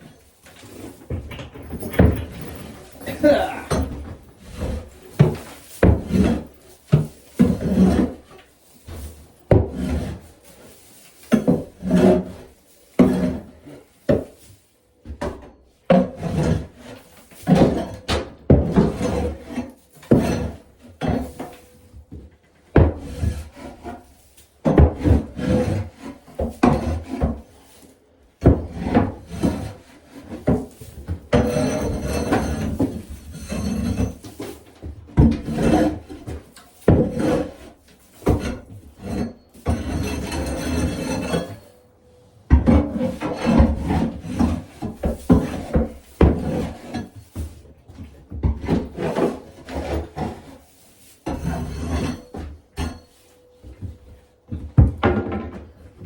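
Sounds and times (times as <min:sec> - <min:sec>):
tool scraping wooden boards: 0:00.0 - 0:41.8, 0:42.5 - 0:56.0.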